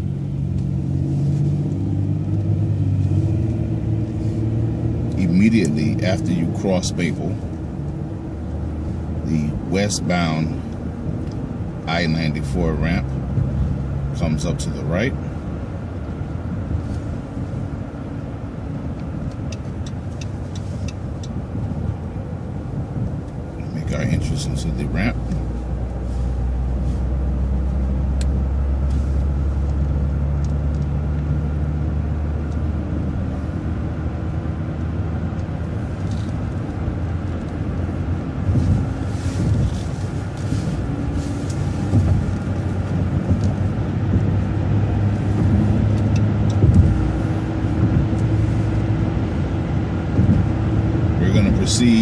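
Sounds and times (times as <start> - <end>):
bus engine drone: 0.0 - 52.0
road noise: 0.0 - 52.0.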